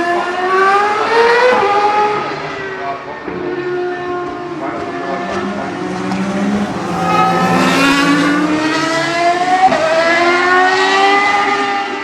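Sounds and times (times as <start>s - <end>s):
race car engine accelerating: 0.7s - 11.9s.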